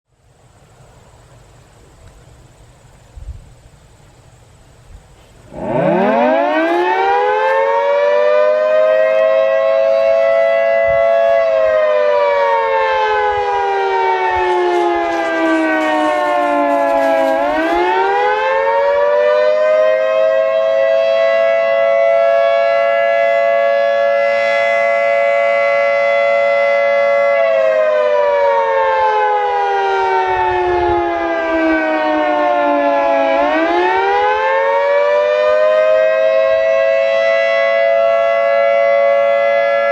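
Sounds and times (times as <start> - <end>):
dual-tone siren wailing: 5.5 - 39.9.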